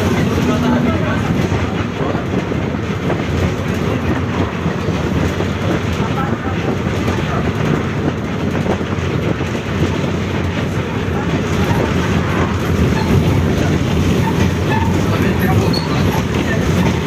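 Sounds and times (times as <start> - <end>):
bus rattling rumble: 0.0 - 17.0.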